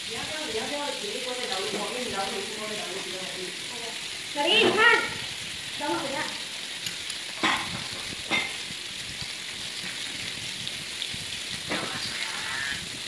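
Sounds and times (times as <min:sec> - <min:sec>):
meat sizzling on a grill plate: 0:00.0 - 0:13.0.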